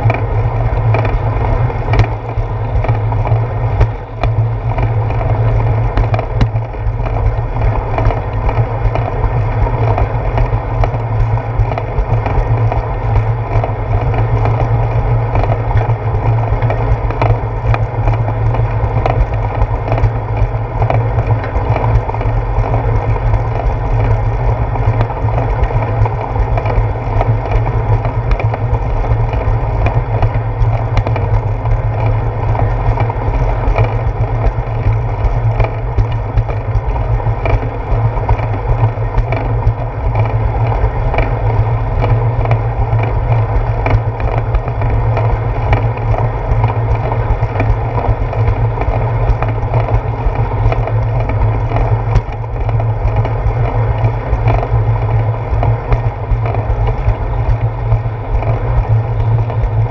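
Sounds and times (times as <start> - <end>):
bicycle tyres rumbling on concrete: 0.0 - 59.9
ticks and knocks from bumps: 1.8 - 14.7, 15.3 - 59.9.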